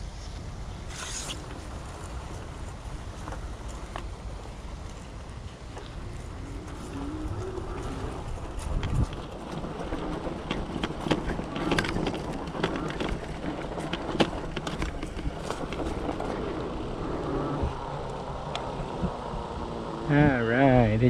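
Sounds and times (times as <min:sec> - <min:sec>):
wind: 0:00.0 - 0:21.0
tyres rumbling: 0:00.8 - 0:21.0
bike frame rattling: 0:00.9 - 0:20.0.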